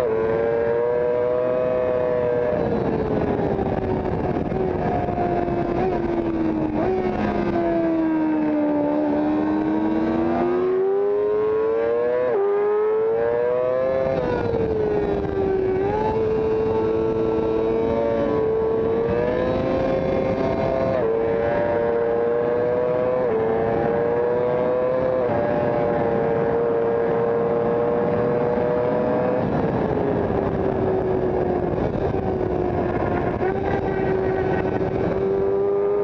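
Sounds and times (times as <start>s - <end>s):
racing motorcycle engine: 0.0s - 36.0s.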